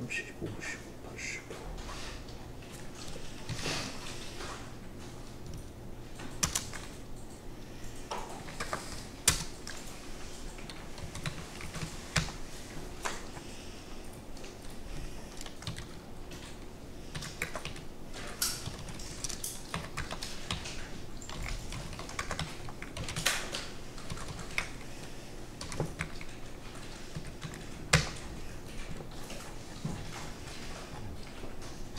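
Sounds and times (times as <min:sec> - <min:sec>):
low steady hum: 0:00.0 - 0:31.9
keyboard typing: 0:02.7 - 0:13.4, 0:14.1 - 0:31.9.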